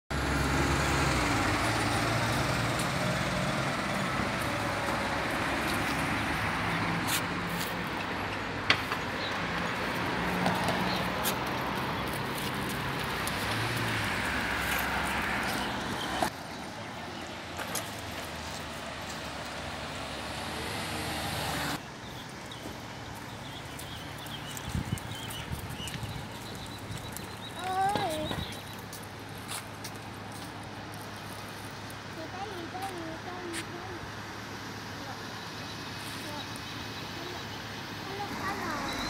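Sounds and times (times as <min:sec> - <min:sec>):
road traffic passing: 0:00.1 - 0:39.0.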